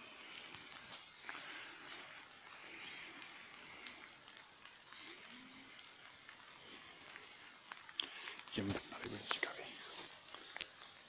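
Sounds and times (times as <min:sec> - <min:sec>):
faint small ticks: 0:00.0 - 0:11.0
steady high-pitched hiss: 0:00.0 - 0:11.0.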